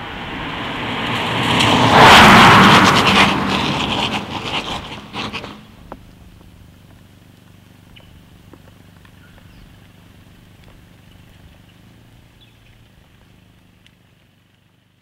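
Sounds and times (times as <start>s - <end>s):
car engine idling: 3.0s - 15.0s.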